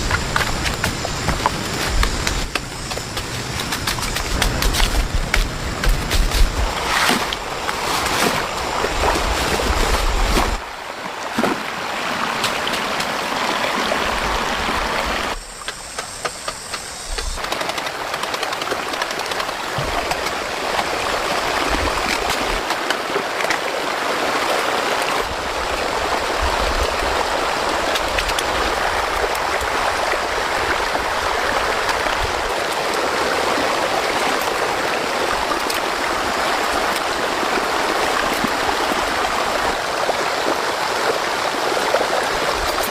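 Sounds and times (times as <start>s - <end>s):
floodwater rushing: 0.0s - 15.4s, 17.4s - 42.9s.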